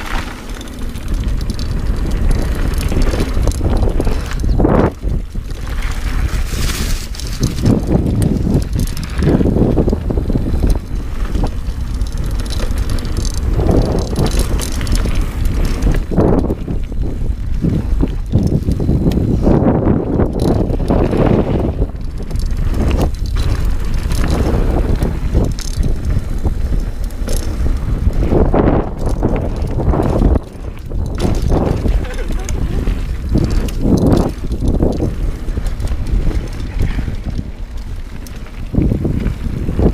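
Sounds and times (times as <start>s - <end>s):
bike rattling over bumps: 0.0s - 39.9s
bike tyres rolling on dirt: 0.0s - 39.9s
wind noise on microphone: 0.0s - 39.9s.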